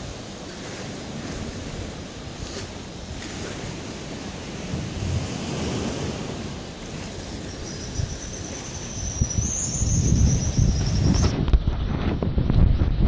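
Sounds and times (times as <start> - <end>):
ocean surf washing over rocks: 0.0 - 11.8
wind buffeting microphone: 0.0 - 13.0.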